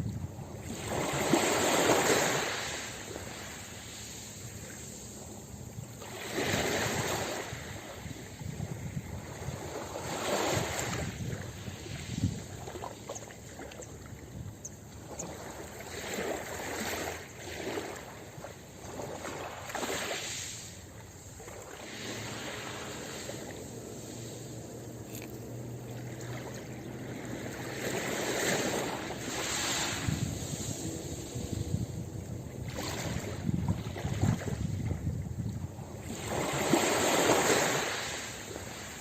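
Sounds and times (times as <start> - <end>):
ocean waves washing onto beach: 0.0 - 39.0.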